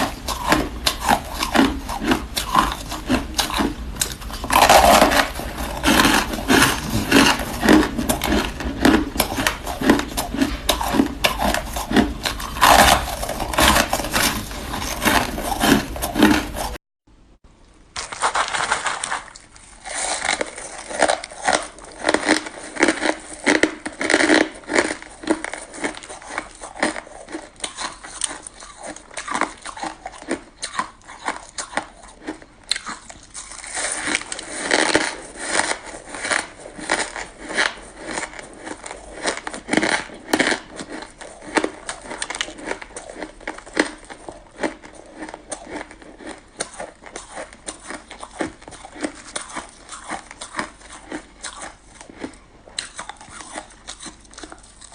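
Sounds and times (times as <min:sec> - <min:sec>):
chewing crunchy shaved ice: 0:00.0 - 0:16.8, 0:18.0 - 0:54.9.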